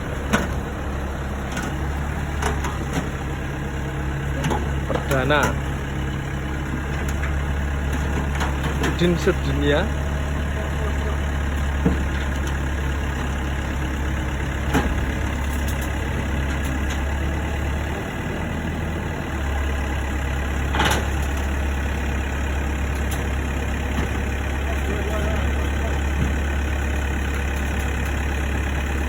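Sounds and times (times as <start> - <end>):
heavy machinery diesel engine: 0.0 - 29.0.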